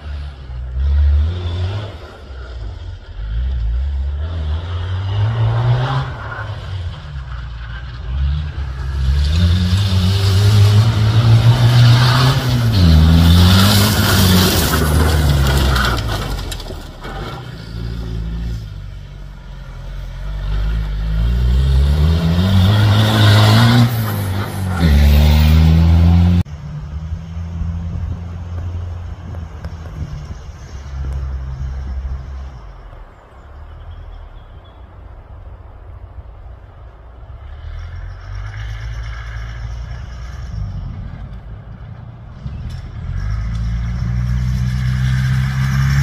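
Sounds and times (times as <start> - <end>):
off-road vehicle engine revving: 0.0 - 33.0, 37.4 - 46.0.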